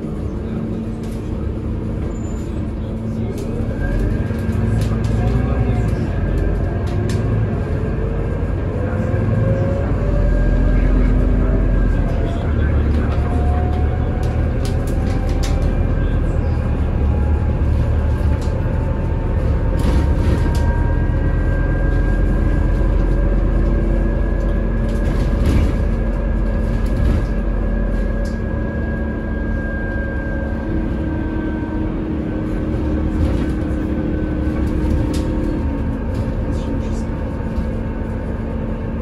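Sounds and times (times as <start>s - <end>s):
bus engine rumble: 0.0s - 39.0s.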